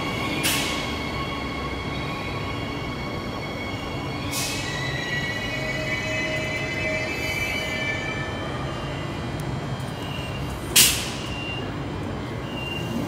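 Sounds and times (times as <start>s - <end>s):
train wheels squealing: 0.0s - 9.2s, 9.9s - 13.0s
train rumble: 0.0s - 13.0s.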